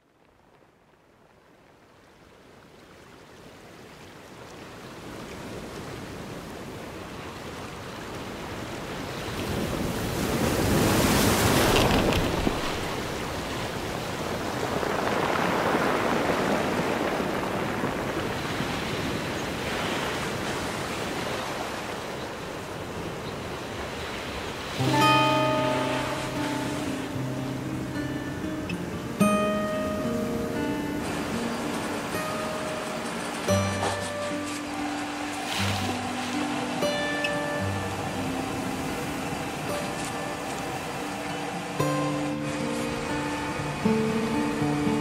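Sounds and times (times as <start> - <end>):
waves washing in: 2.0 - 45.0.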